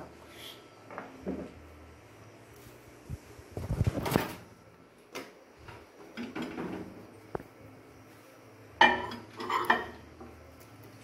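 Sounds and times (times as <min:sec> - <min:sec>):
microwave running hum: 0:00.0 - 0:11.0.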